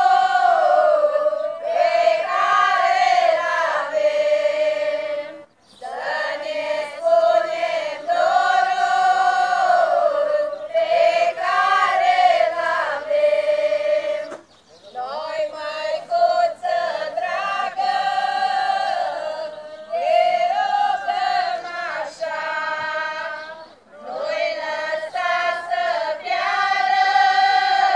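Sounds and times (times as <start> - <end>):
women's choir singing: 0.0 - 27.9.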